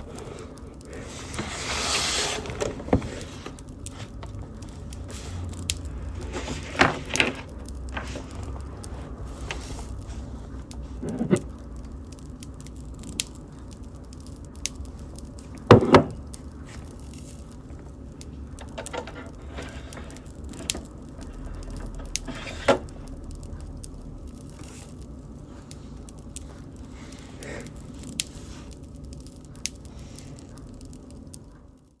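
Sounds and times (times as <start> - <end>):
bonfire rumbling: 0.0 - 32.0
fire crackles and pops: 0.0 - 32.0.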